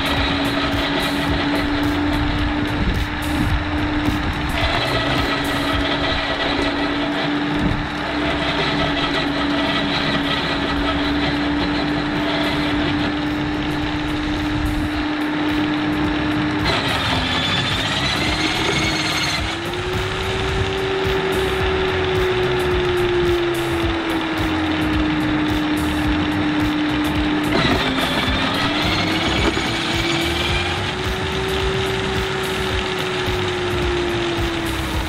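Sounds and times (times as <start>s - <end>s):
electric shredder running: 0.0s - 35.0s.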